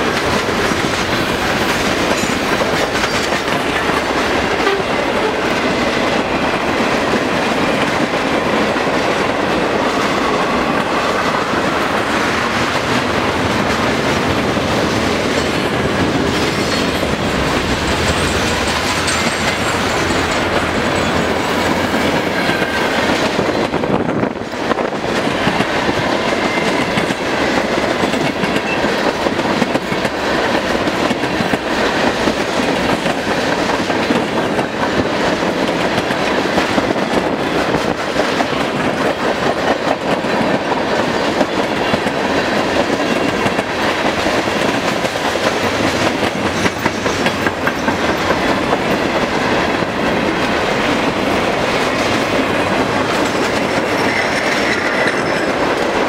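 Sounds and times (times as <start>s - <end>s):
train wheels rumbling and clattering: 0.0s - 56.0s.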